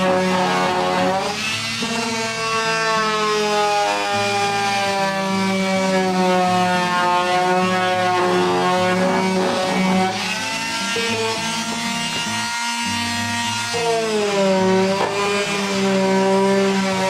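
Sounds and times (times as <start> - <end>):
electric palm sander whining: 0.0 - 17.0.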